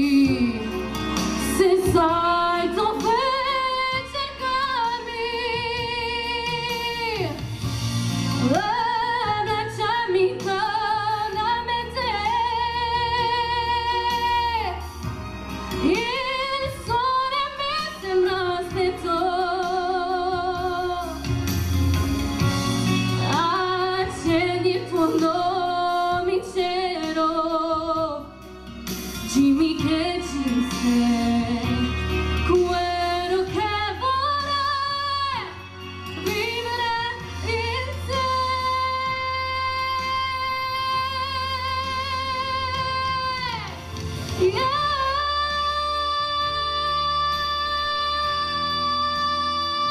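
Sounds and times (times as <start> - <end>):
woman singing into microphone: 0.0 - 7.7, 8.3 - 21.4, 23.1 - 28.5, 29.2 - 49.9
backing music: 0.0 - 49.9.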